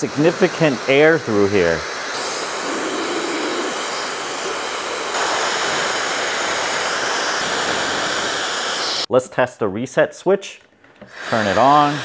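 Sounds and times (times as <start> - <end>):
hair dryer running: 0.0 - 9.1, 11.0 - 12.0.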